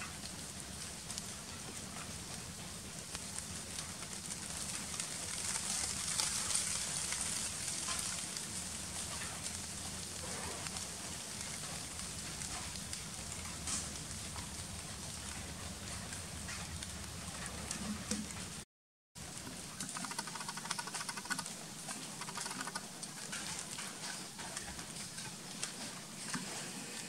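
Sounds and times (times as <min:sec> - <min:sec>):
crackling hissing forest ambience: 0:00.0 - 0:18.6, 0:19.2 - 0:27.0
faint rustles and ticks: 0:00.0 - 0:18.6, 0:19.2 - 0:27.0.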